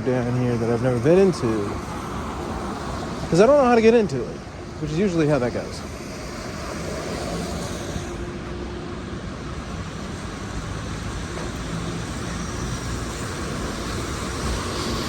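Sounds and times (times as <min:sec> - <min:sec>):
hiss of passing vehicles: 0:00.0 - 0:15.0.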